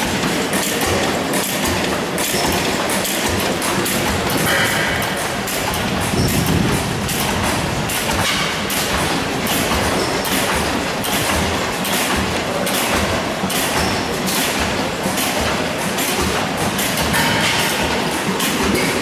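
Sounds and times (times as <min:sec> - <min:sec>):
stationary gas engines clattering: 0:00.0 - 0:19.0.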